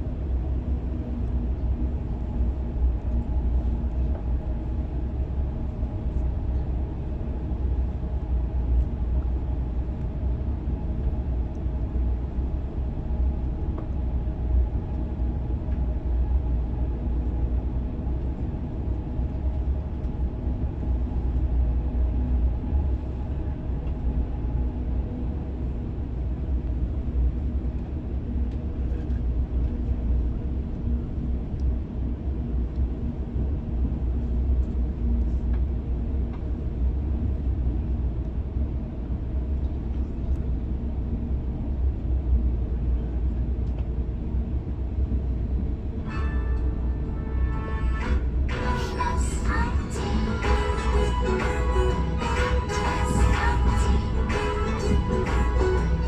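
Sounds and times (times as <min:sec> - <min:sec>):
faint steady hum: 0:00.0 - 0:56.0
train running rumble: 0:00.0 - 0:56.0.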